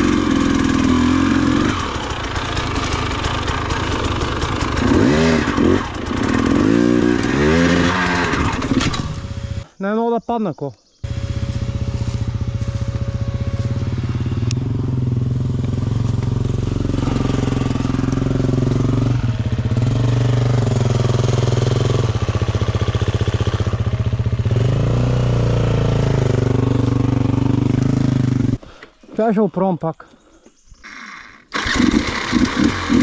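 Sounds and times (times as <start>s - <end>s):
dirt bike engine revving: 0.0s - 9.7s, 11.0s - 28.6s, 30.8s - 33.0s.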